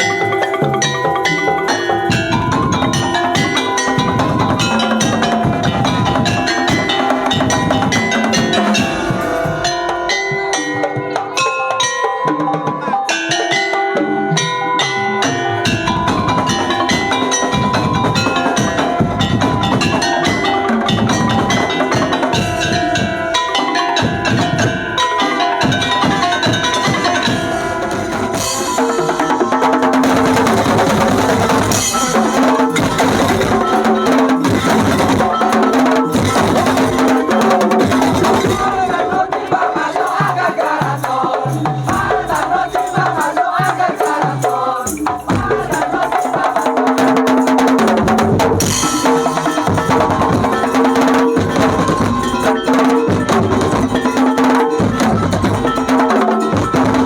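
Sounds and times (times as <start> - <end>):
hand drum strokes: 0.0 - 57.0
ringing tuned metal percussion: 0.0 - 57.0.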